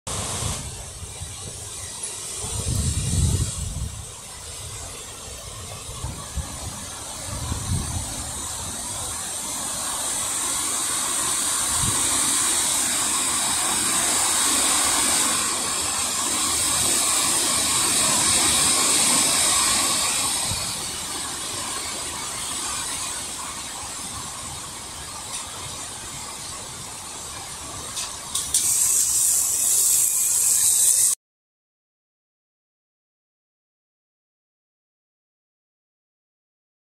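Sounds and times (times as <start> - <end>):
wind rushing through trees: 0.1 - 31.1.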